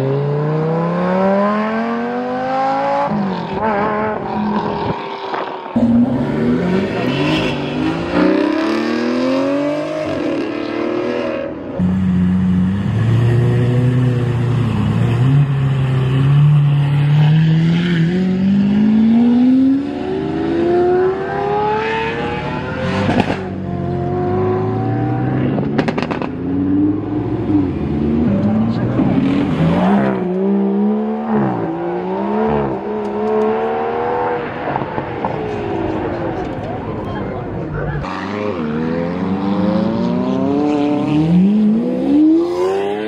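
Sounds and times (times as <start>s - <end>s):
supercar engines accelerating: 0.0s - 43.0s.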